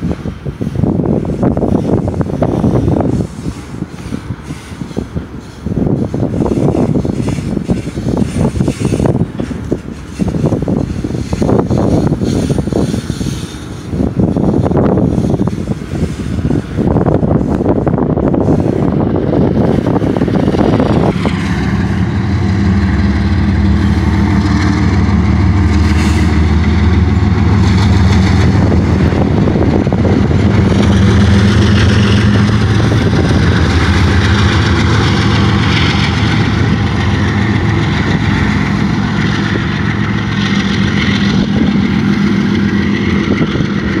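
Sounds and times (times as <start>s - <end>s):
diesel locomotive engine drone: 0.0s - 44.0s
train wheels on rails: 0.0s - 44.0s.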